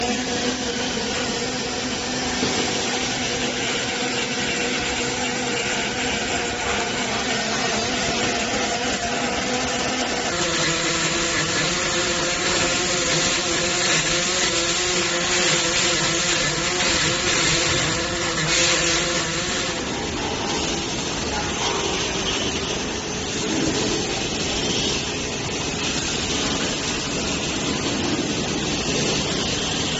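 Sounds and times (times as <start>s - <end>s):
electric motor humming and whirring: 0.0s - 29.9s.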